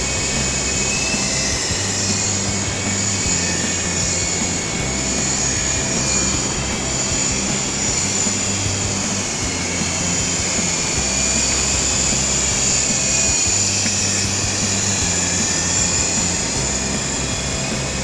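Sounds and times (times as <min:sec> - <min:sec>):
background music: 0:00.0 - 0:18.0
toy helicopter rotor whine: 0:00.0 - 0:18.0.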